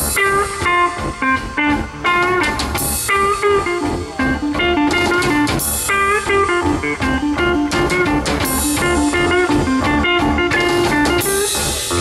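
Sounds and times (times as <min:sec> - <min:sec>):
drum kit: 0:00.0 - 0:12.0
electric guitar lead: 0:00.0 - 0:12.0
second guitar: 0:00.0 - 0:12.0.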